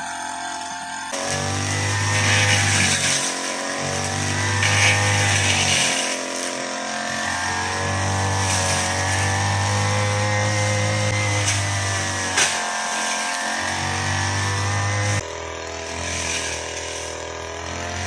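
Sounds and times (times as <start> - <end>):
brush cutter engine cutting grass: 0.0 - 18.0.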